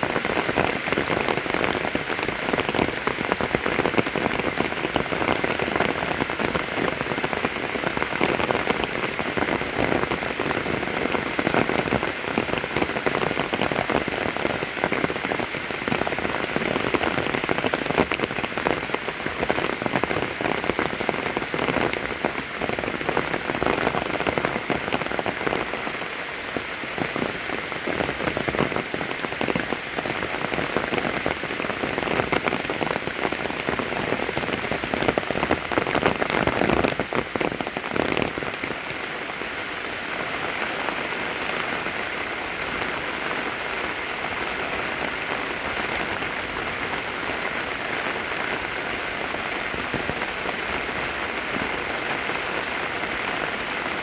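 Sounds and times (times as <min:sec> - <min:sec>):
close raindrops striking: 0:00.0 - 0:54.0
steady rain falling: 0:00.0 - 0:54.0.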